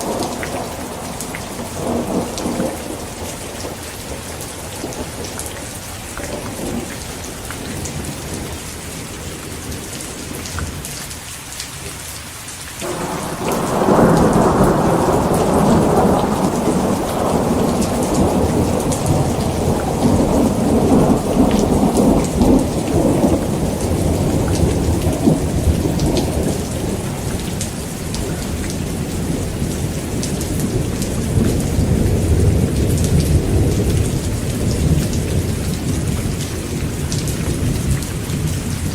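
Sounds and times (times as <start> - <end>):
rolling thunder rumble: 0.0 - 10.8, 12.8 - 38.9
heavy rain: 0.0 - 38.9.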